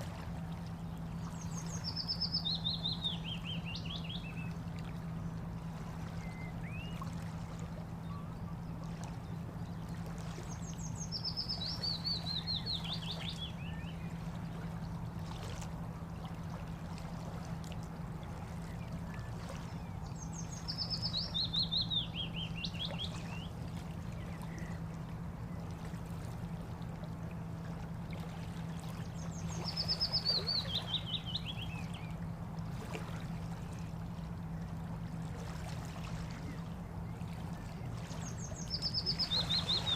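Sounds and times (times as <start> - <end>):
steady low hum: 0.0 - 39.9
songbird singing: 0.2 - 39.9.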